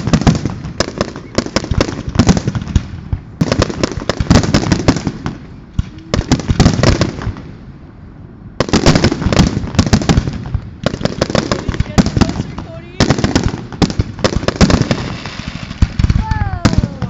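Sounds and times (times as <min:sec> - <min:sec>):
fireworks cracking and banging: 0:00.0 - 0:07.8, 0:08.6 - 0:17.0.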